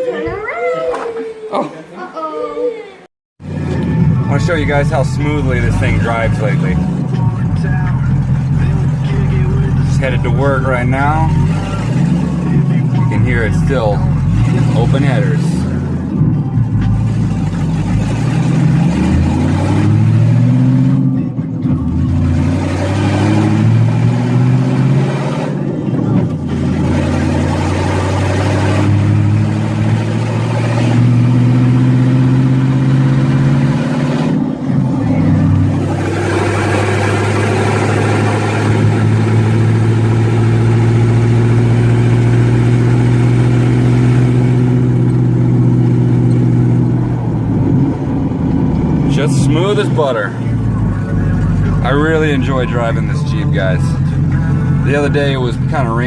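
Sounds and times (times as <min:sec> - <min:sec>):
loud car engine revving: 0:03.4 - 0:56.0.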